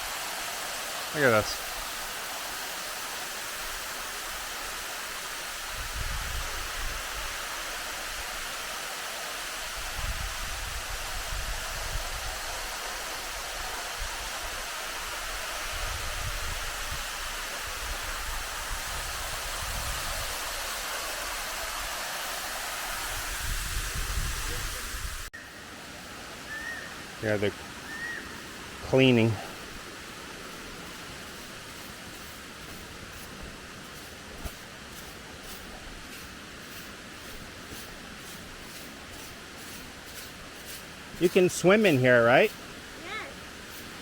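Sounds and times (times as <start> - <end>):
waterfall rushing: 0.0 - 25.3, 26.3 - 44.0.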